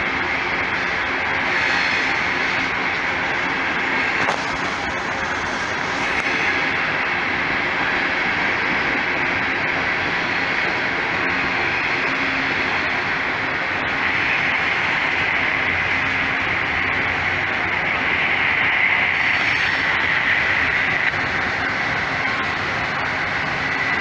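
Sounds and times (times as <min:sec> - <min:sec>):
steel train wheels on rails: 0:00.0 - 0:24.0.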